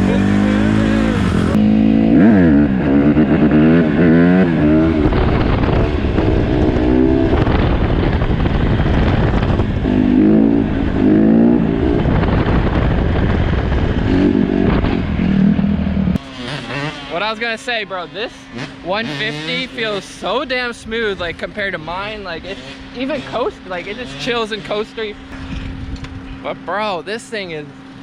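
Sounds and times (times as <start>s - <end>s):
dirt bike engine revving: 0.0s - 26.3s.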